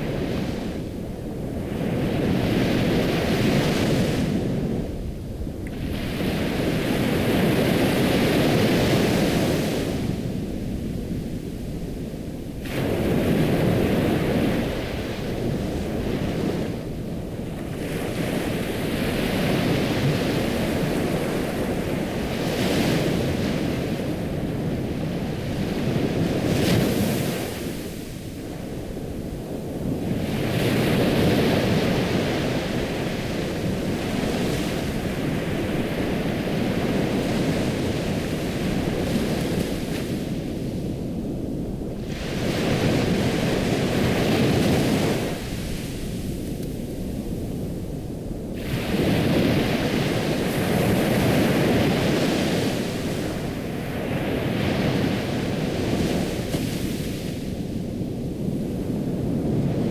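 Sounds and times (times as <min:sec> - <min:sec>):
ocean waves washing in: 0:00.0 - 0:59.9.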